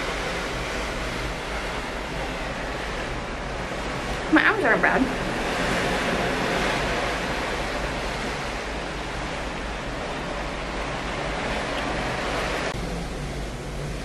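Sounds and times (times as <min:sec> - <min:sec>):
ocean waves rushing: 0:00.0 - 0:14.0
wind: 0:00.0 - 0:14.0.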